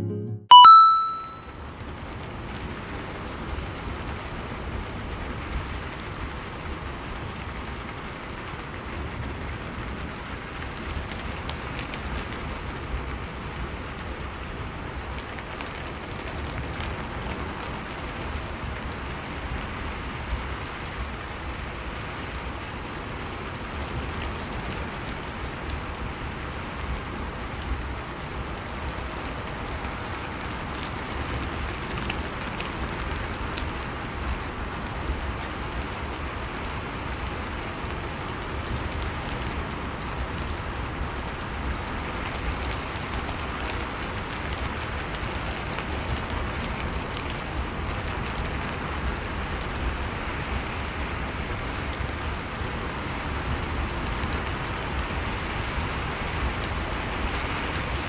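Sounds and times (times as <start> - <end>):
steady rain hiss: 2.6 - 58.0.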